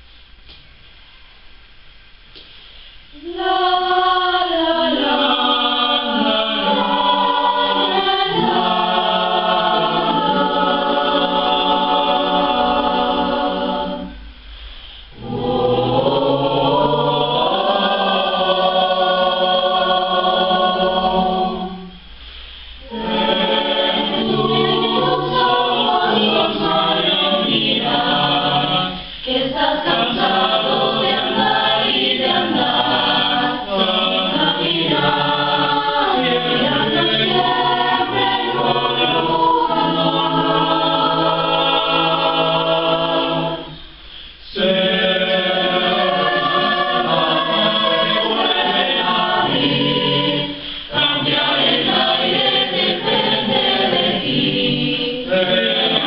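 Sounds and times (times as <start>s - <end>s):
choir singing a cappella: 3.1s - 56.0s.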